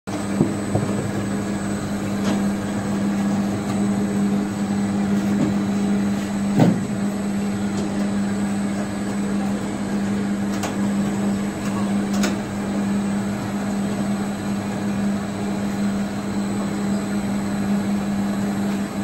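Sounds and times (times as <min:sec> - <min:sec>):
machine hum with low tone: 0:00.1 - 0:19.0.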